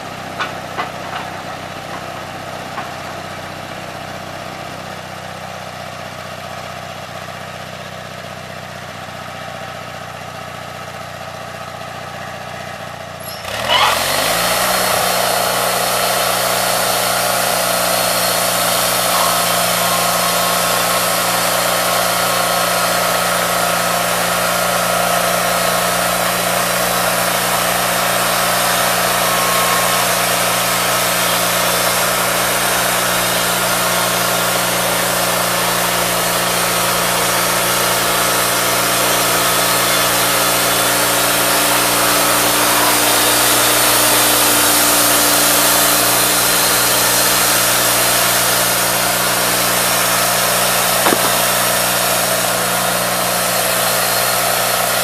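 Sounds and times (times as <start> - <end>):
band saw blade cutting log: 0.0 - 4.0, 13.3 - 55.0
sawmill engine revving: 0.0 - 6.2, 12.6 - 55.0.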